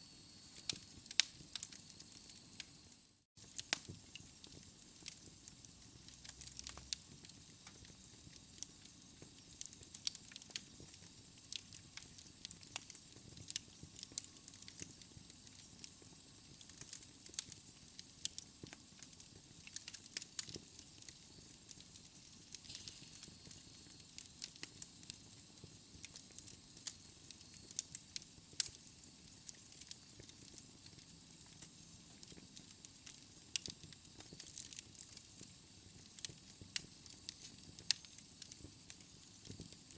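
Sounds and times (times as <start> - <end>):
fire crackling and popping: 0.2 - 39.9.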